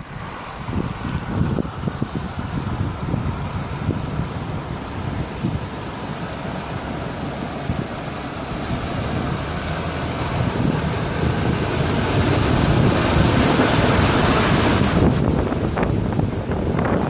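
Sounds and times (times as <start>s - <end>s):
car engine: 0.0s - 17.0s
water splashing around wheels: 0.0s - 17.0s.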